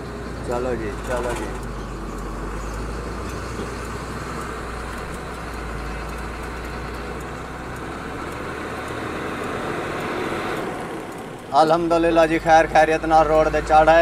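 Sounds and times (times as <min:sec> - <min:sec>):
road noise: 0:00.0 - 0:14.0
truck engine running: 0:00.0 - 0:14.0.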